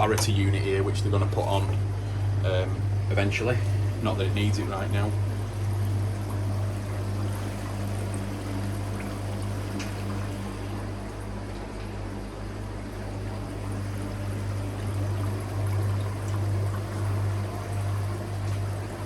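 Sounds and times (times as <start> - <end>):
low pump hum: 0.0 - 19.0
water pouring and trickling: 3.5 - 19.0.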